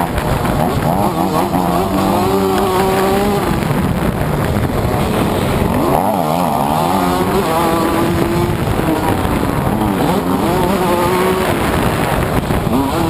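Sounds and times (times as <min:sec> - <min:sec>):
motocross engine running hard: 0:00.0 - 0:13.0.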